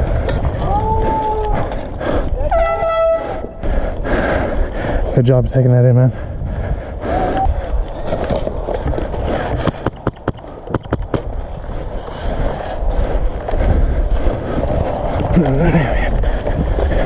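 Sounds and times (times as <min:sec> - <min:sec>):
rumbling movement: 0:00.0 - 0:17.0
wind noise on microphone: 0:00.0 - 0:17.0.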